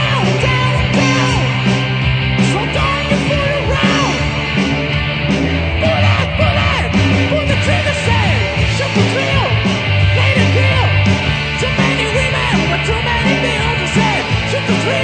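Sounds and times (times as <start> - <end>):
person singing: 0.0 - 1.7, 2.4 - 4.3, 5.8 - 15.0
rock band playing live: 0.0 - 15.0.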